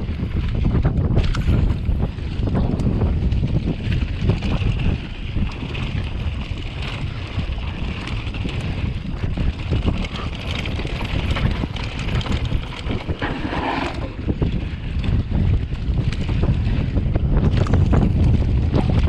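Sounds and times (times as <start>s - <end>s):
mountain bike rumbling and rattling: 0.0s - 19.0s
wind buffeting microphone: 0.0s - 19.0s
tyres clicking on dirt: 0.4s - 19.0s.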